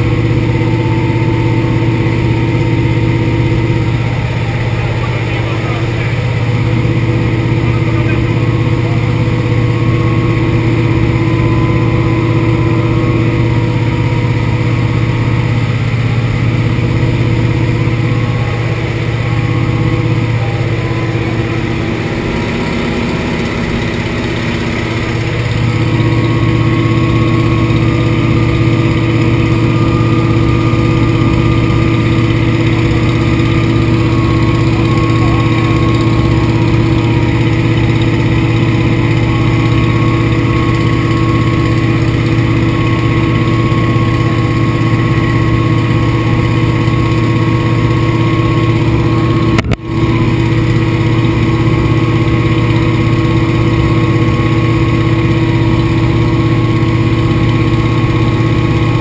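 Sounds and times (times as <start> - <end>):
radial engine droning: 0.0 - 59.0.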